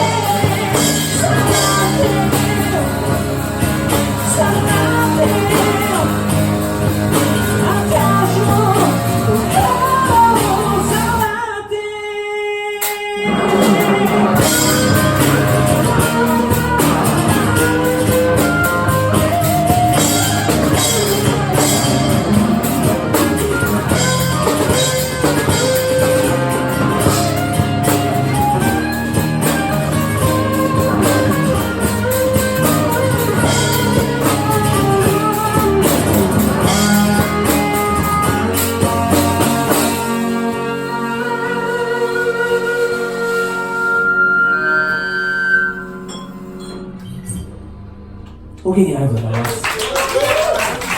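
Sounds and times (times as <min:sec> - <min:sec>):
rock band music: 0:00.0 - 0:11.8, 0:12.7 - 0:50.9.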